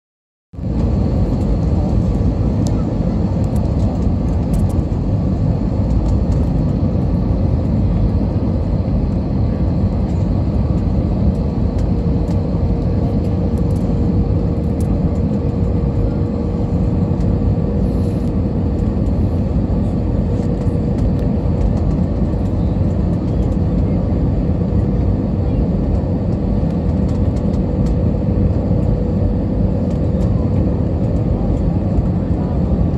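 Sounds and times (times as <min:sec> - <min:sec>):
aircraft cabin engine rumble: 0:00.6 - 0:32.9.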